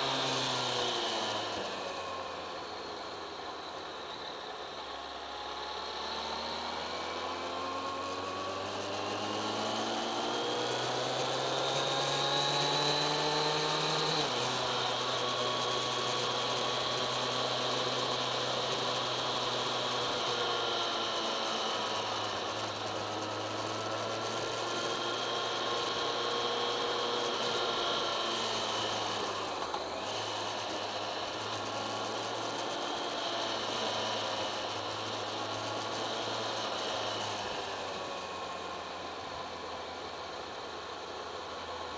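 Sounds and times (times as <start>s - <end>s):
motorcycle engine revving: 4.7s - 41.6s.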